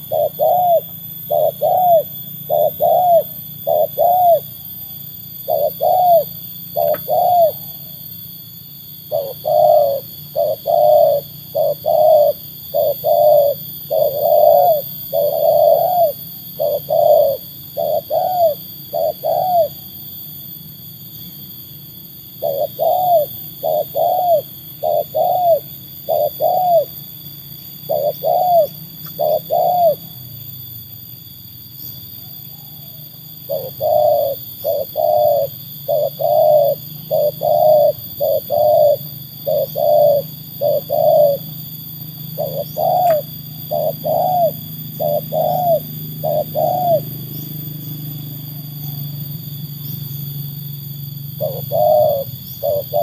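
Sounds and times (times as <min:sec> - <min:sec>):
dove cooing: 0:00.0 - 0:08.2, 0:08.8 - 0:20.2, 0:22.3 - 0:30.5, 0:32.2 - 0:49.9, 0:51.1 - 0:53.0.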